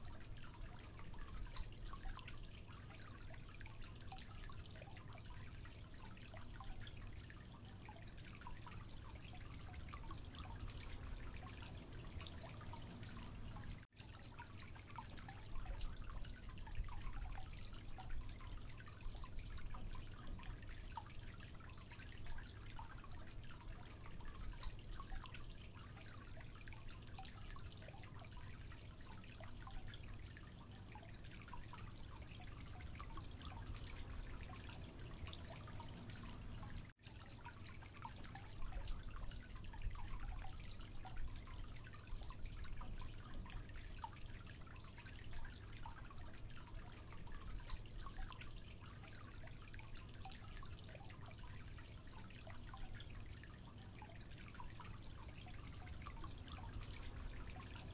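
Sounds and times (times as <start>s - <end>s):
faint patter of drips: 0.0s - 57.9s.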